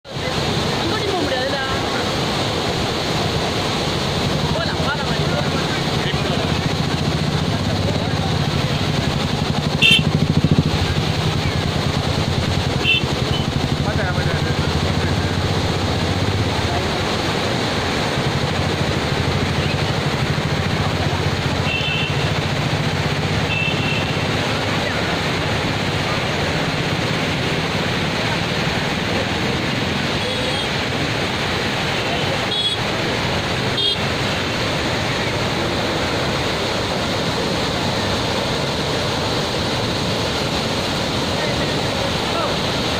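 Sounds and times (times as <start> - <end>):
river rushing over rapids: 0.0 - 42.9.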